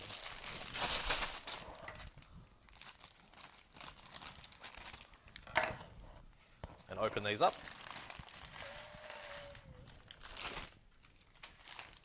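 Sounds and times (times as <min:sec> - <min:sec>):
plastic bags crinkling: 0:00.0 - 0:05.6, 0:07.0 - 0:12.0.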